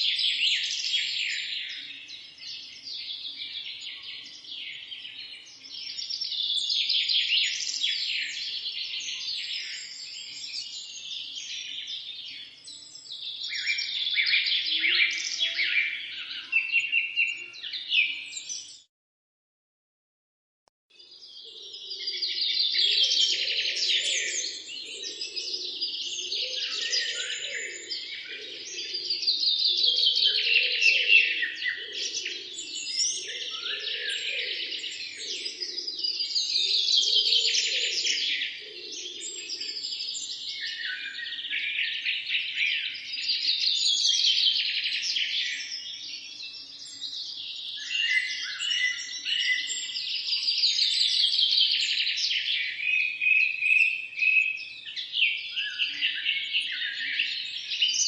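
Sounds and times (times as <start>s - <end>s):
chorus of songbirds: 0.0s - 18.9s, 20.9s - 58.0s.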